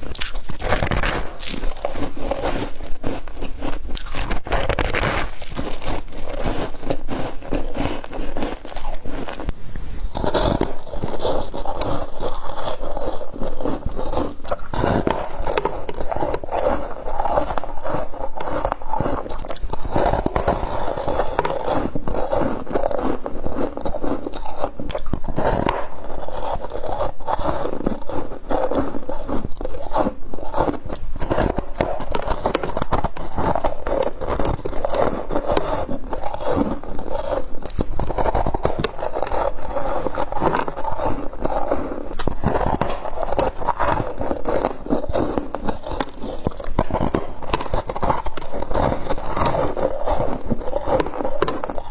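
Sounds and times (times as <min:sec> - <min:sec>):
crunching frost: 0:00.0 - 0:51.9.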